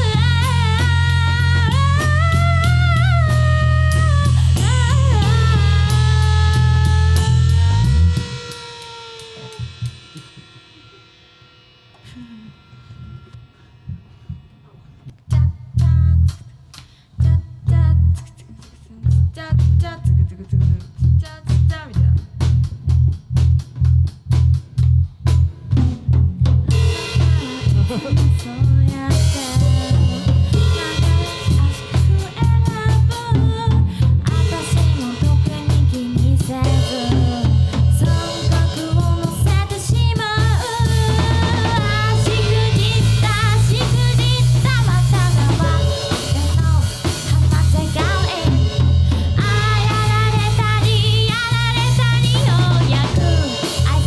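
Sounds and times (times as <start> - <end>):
rock band with electric guitars: 0.0 - 15.7, 19.6 - 54.0.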